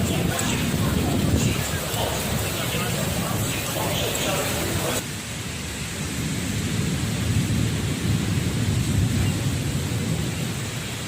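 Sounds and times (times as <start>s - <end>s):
heavy rain pouring: 0.0s - 11.0s
wind storm: 0.0s - 11.0s.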